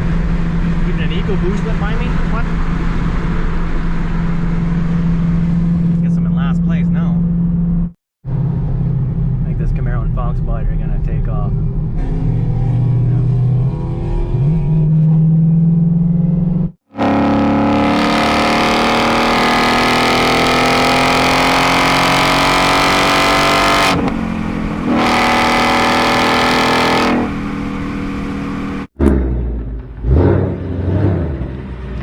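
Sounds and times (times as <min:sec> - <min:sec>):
car engines revving: 0:00.0 - 0:09.5, 0:11.6 - 0:32.0.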